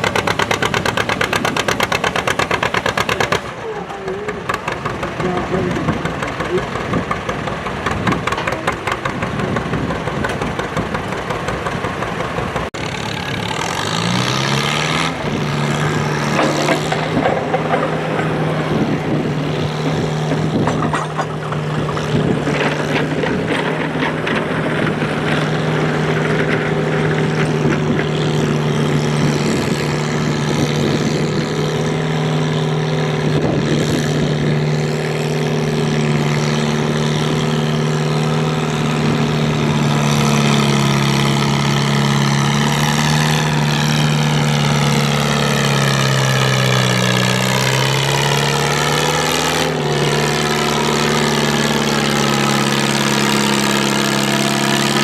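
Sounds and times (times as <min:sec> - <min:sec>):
tractor engine running rough: 0:00.0 - 0:55.0.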